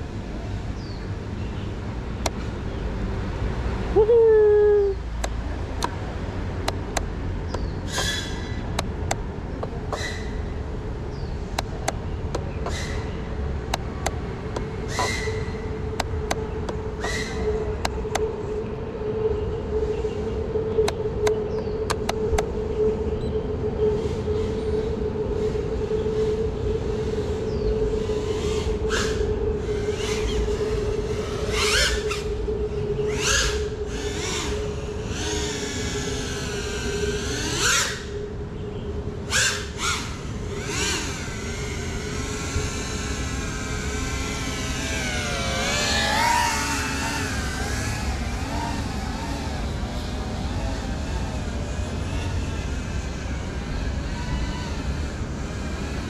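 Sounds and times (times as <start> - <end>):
drone propellers humming: 0.0 - 56.0
wind noise rumble: 0.0 - 56.0.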